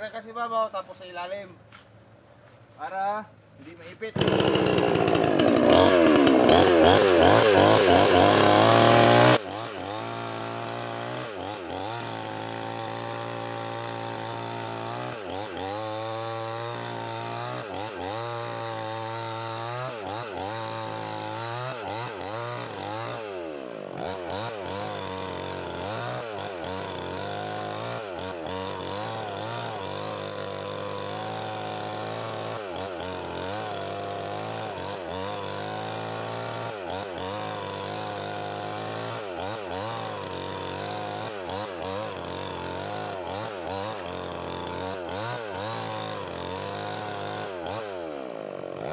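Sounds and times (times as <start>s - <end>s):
chainsaw cutting wood: 4.1s - 48.9s.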